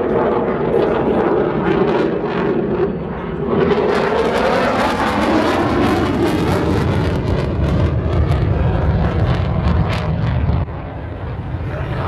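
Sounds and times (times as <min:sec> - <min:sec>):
aircraft engine noise: 0:00.0 - 0:12.0.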